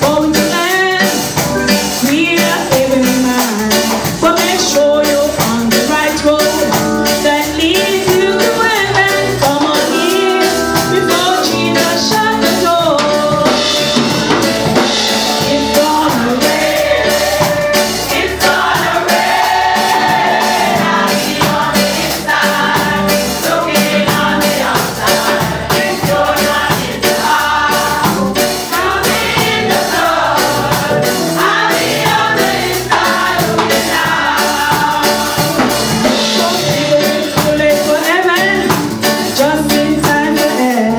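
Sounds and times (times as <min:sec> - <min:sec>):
band accompaniment: 0:00.0 - 0:40.9
choir singing gospel song: 0:00.0 - 0:40.9
drums beating: 0:00.0 - 0:40.9.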